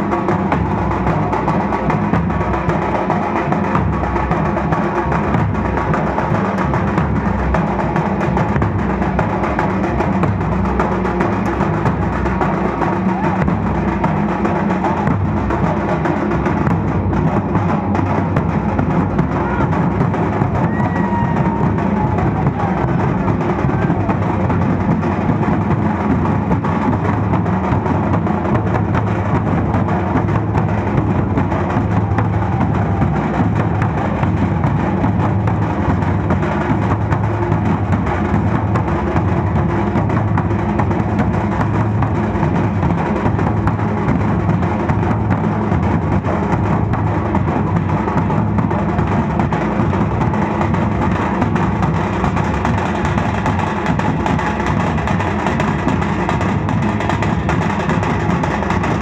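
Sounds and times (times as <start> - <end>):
drum ensemble playing: 0.0 - 59.0.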